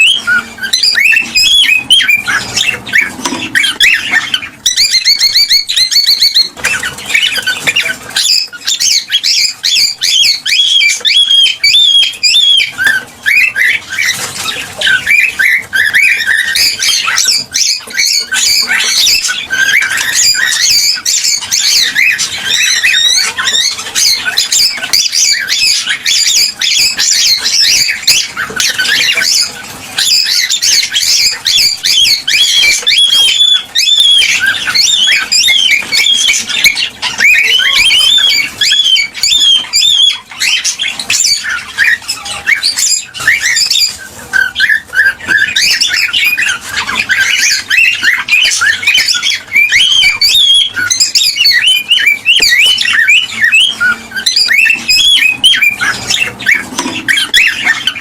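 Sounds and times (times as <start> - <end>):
cockatiels chirping and squawking: 0.0 - 58.0.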